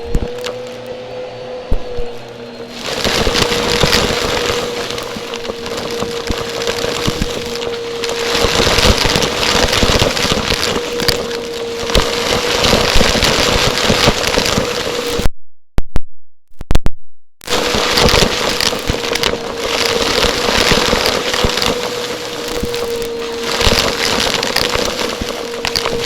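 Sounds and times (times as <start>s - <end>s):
vacuum cleaner running: 0.0s - 15.3s, 17.5s - 26.0s.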